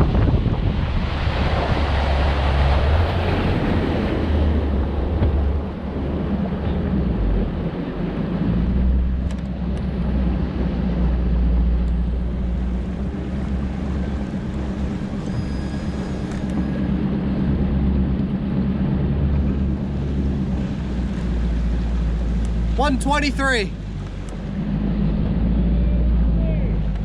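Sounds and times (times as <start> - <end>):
outboard motor droning: 0.0 - 27.0.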